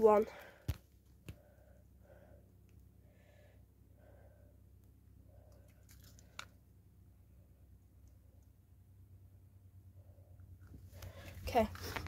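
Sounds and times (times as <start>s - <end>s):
low hum: 0.4s - 12.0s.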